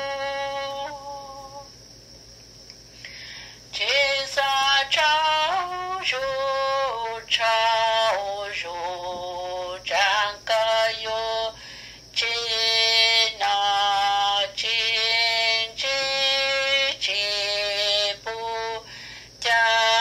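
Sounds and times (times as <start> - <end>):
person singing slow melody: 0.0 - 2.0, 3.0 - 20.0.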